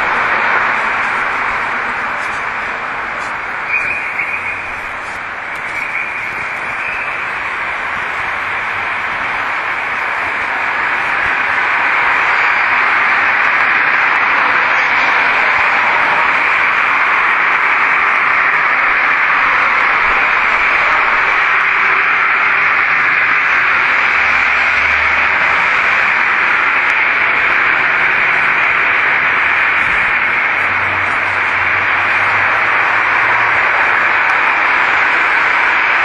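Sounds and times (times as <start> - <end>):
loud recording hiss: 0.0 - 36.0.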